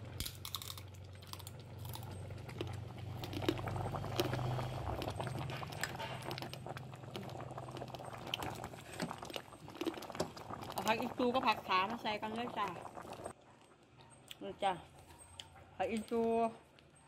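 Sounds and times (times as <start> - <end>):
curry bubbling and popping: 0.0 - 14.0.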